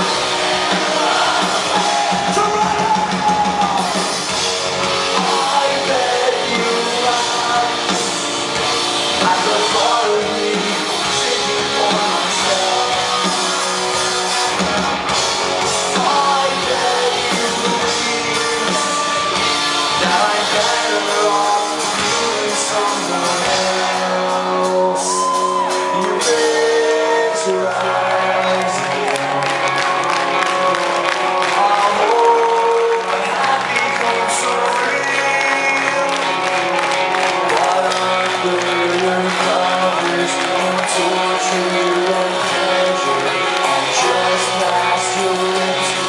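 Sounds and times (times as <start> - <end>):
live rock band playing: 0.0 - 46.0
sung and shouted vocals: 0.0 - 46.0.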